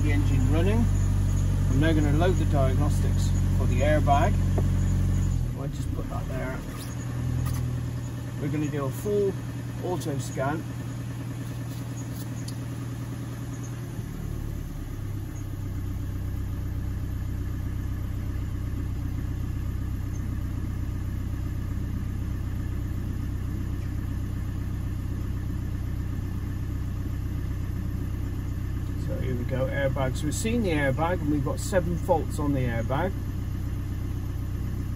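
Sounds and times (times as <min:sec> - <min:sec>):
van engine idling: 0:00.0 - 0:34.9.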